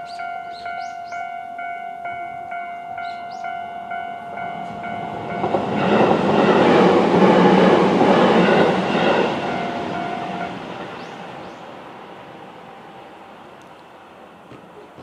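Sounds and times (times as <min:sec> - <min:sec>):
level crossing warning bells: 0:00.0 - 0:12.0
electric train passing: 0:00.0 - 0:15.0.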